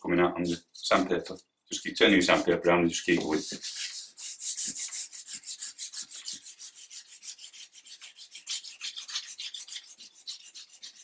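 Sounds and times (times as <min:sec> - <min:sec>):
sandpaper rubbing on wood: 0:01.8 - 0:11.0.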